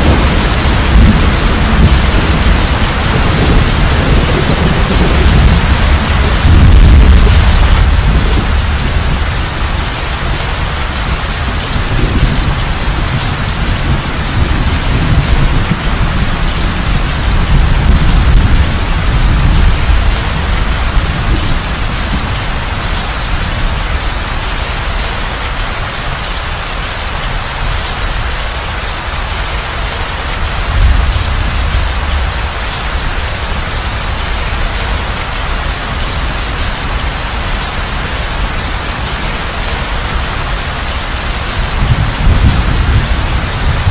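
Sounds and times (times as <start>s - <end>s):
low thunder rumbling: 0.0s - 24.2s, 30.3s - 43.9s
rain hissing: 0.0s - 43.9s.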